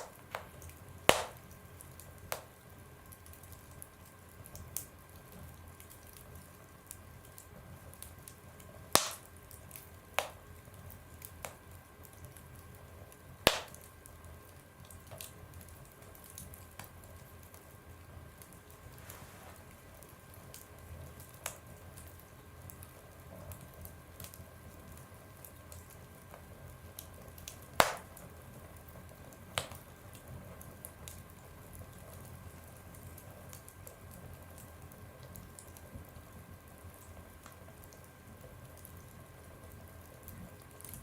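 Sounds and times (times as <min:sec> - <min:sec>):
wood fire crackling in a stove: 0:00.0 - 0:41.0.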